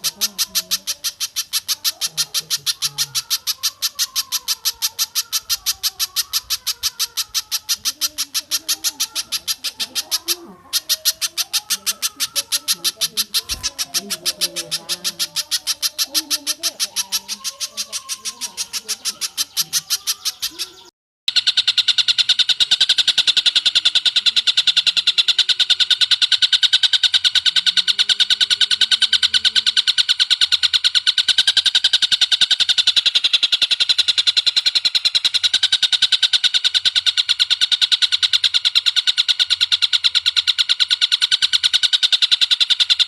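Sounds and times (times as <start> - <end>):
rapid repeated bird calls: 0.0 - 43.0.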